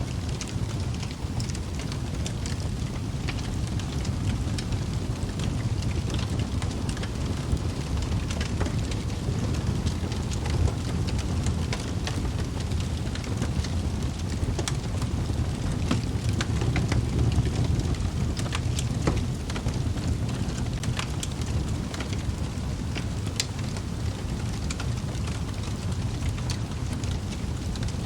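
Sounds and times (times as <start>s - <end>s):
logs crackling and popping: 0.0s - 28.0s
low rumble of flames: 0.0s - 28.0s.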